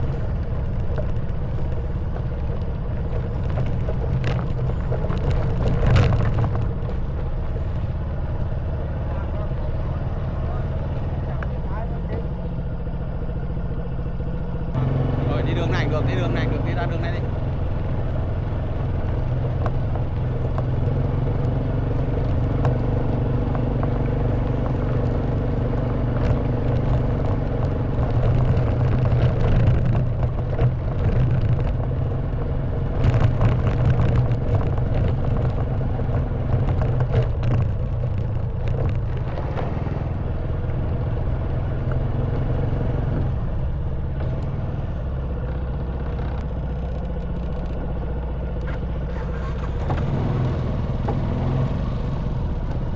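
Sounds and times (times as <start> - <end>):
motorcycle rattling over stones: 0.0 - 9.0, 15.3 - 52.9
motorcycle engine running: 0.0 - 52.9.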